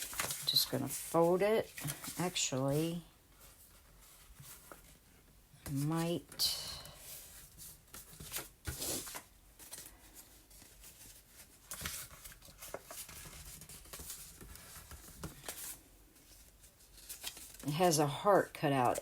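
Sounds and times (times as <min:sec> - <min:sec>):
paper rustling and crinkling: 0:00.0 - 0:05.1, 0:07.0 - 0:17.9.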